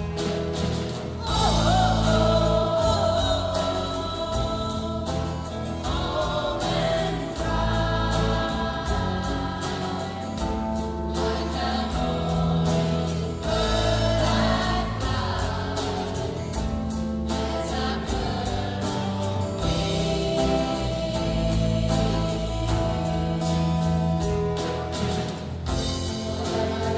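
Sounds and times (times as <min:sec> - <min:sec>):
choir singing with backing band: 0:00.0 - 0:26.9.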